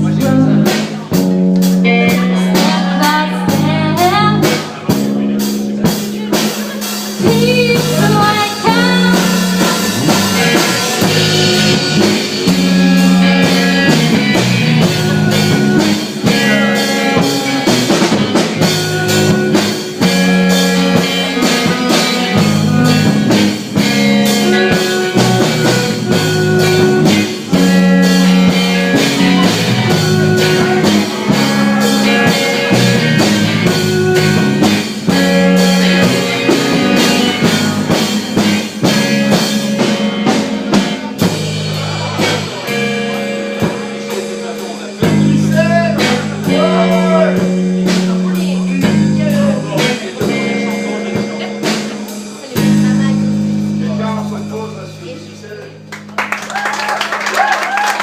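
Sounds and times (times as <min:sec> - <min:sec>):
drum kit: 0:00.0 - 0:58.0
electric guitar: 0:00.0 - 0:58.0.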